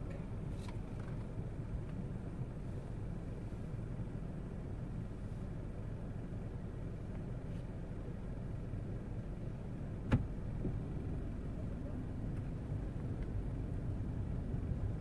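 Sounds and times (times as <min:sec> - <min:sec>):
car engine rumble from inside: 0:00.0 - 0:15.0.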